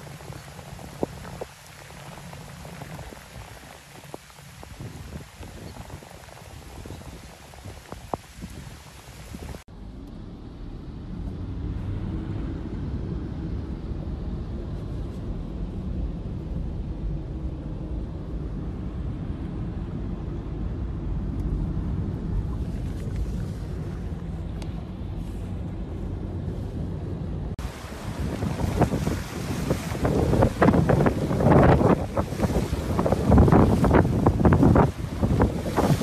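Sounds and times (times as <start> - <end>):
car driving through floodwater: 0.0 - 36.0.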